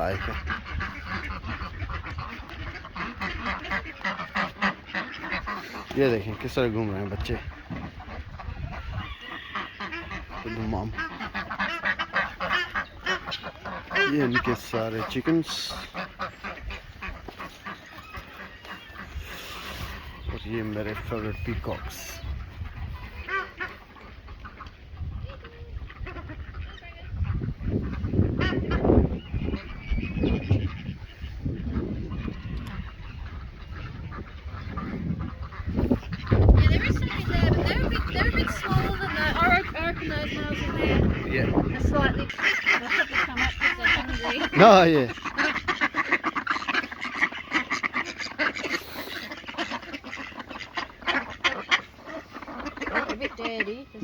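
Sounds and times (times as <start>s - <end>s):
ducks quacking: 0.0s - 54.0s
farmyard birds calling: 0.0s - 54.0s.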